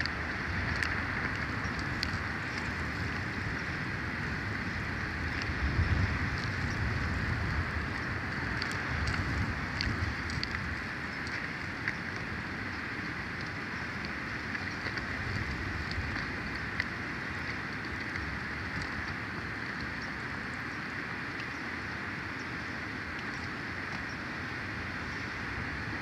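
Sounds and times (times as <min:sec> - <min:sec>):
faint ticks: 0:00.0 - 0:03.8, 0:05.1 - 0:24.3
wind on microphone: 0:00.0 - 0:26.0.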